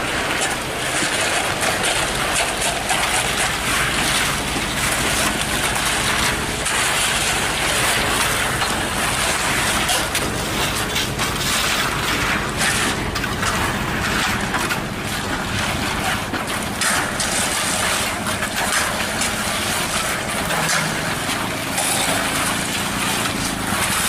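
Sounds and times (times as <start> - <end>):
continuous rushing noise: 0.0 - 24.0
diesel truck engine running: 0.0 - 24.0
scraping and knocking: 0.0 - 24.0.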